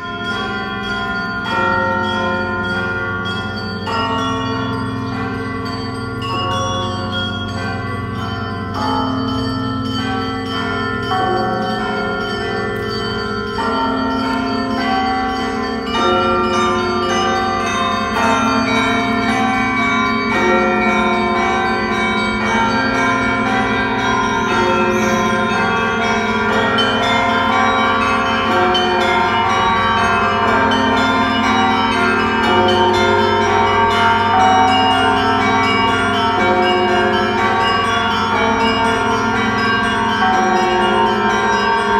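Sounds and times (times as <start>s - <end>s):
church bells pealing: 0.0s - 41.9s.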